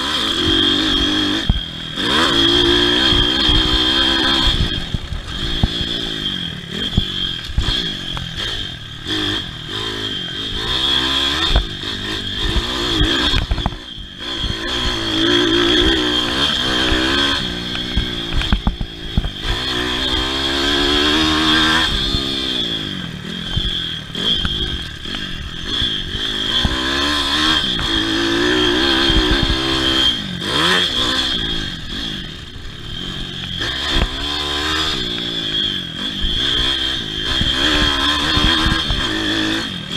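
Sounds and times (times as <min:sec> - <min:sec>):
motorbike engine revving: 0:00.0 - 0:39.9
steady high whine: 0:00.0 - 0:39.9.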